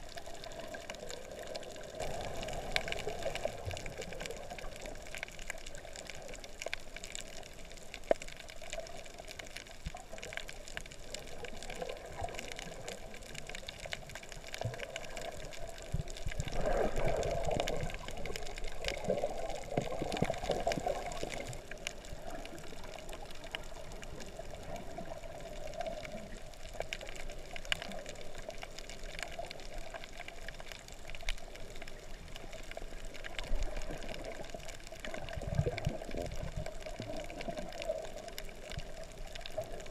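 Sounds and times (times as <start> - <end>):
muffled underwater rush: 0.0 - 39.9
faint clicks: 0.1 - 39.9.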